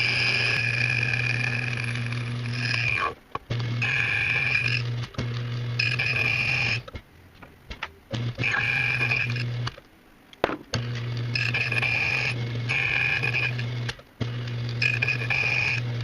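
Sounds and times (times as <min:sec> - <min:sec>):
key machine motor hum: 0:00.0 - 0:07.0, 0:07.7 - 0:09.8, 0:10.7 - 0:16.0.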